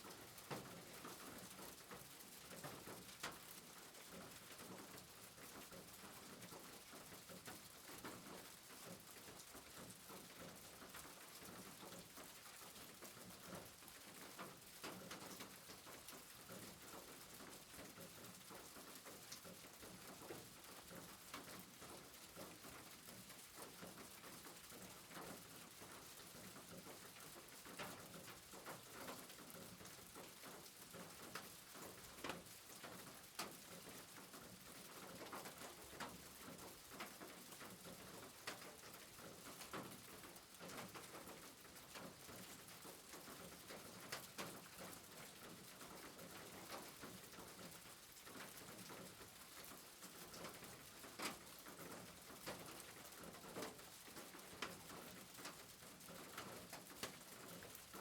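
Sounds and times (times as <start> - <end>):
faint steady rain: 0.0 - 58.0.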